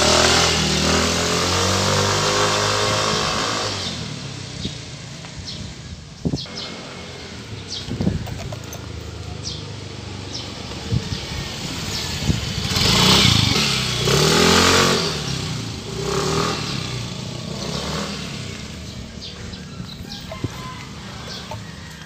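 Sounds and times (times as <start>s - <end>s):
scooter engine passing by: 0.0s - 22.0s.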